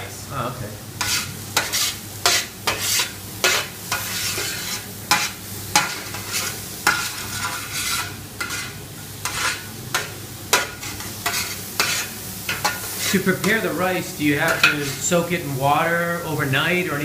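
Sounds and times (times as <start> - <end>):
food sizzling in oil: 0.0 - 17.0
utensil scraping a pan: 1.0 - 15.3.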